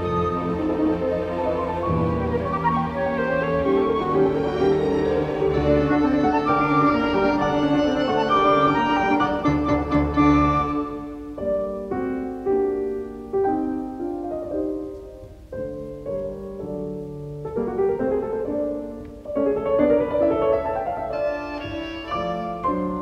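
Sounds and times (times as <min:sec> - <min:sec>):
instrumental background music: 0:00.0 - 0:23.0.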